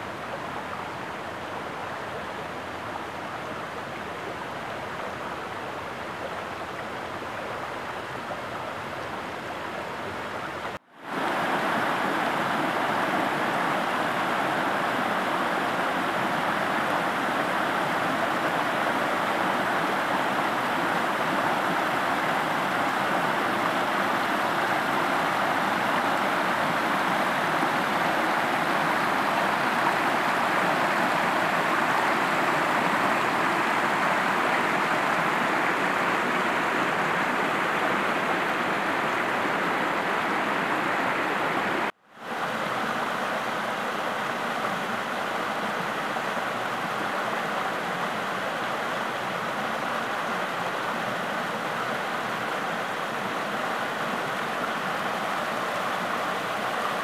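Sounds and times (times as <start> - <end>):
creek water cascading over rocks: 0.0 - 57.0.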